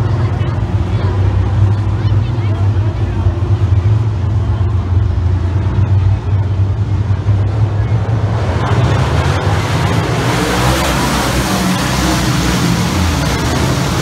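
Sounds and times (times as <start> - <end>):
cars rushing past: 0.0 - 14.0
race car engines rumbling: 0.0 - 14.0.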